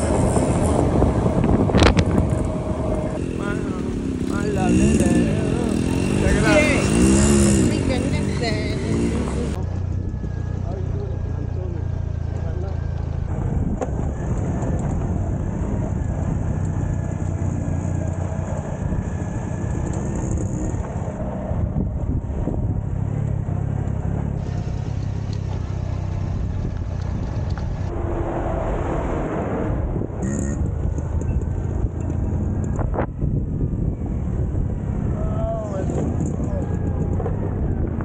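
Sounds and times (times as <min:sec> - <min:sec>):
small motorcycle engine running: 0:00.0 - 0:27.8, 0:30.2 - 0:38.0.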